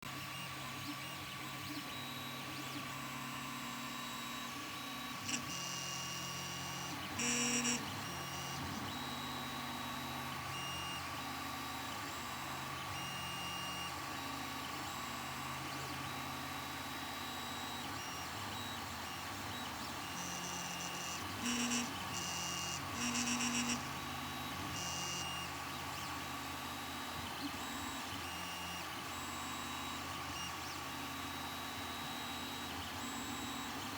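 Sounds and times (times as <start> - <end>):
three d printer humming: 0.1 - 33.9.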